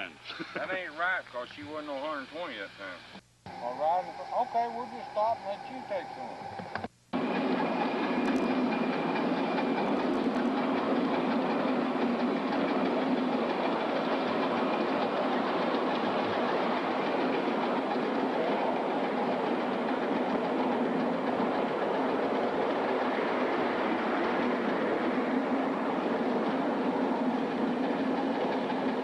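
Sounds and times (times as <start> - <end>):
steam locomotive rushing: 0.8 - 29.0.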